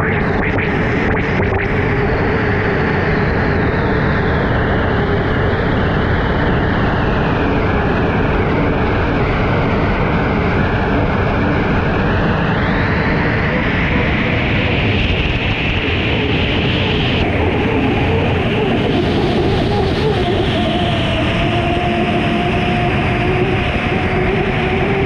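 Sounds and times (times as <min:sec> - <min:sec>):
boat turbine engine roar: 0:00.0 - 0:25.0.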